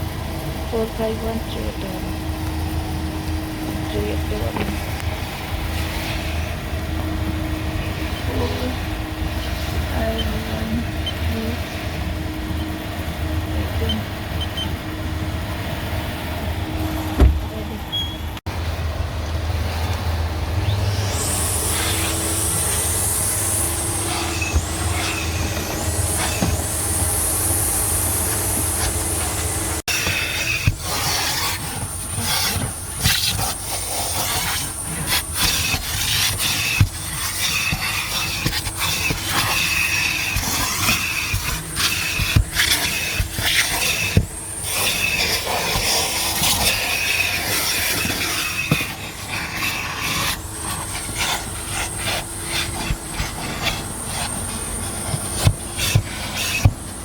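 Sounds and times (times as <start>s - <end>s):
vacuum cleaner rushing and whining: 0.0s - 17.8s, 18.5s - 57.0s.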